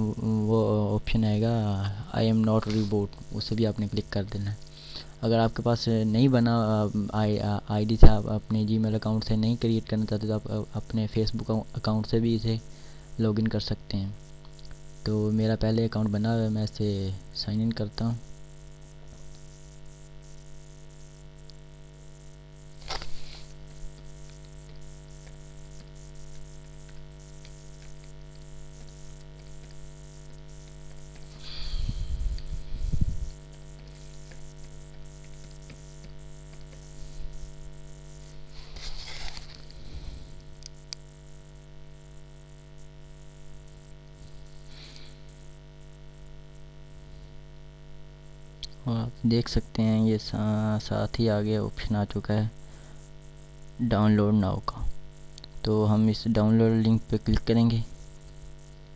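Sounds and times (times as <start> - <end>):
electrical hum with hiss: 0.0 - 58.9.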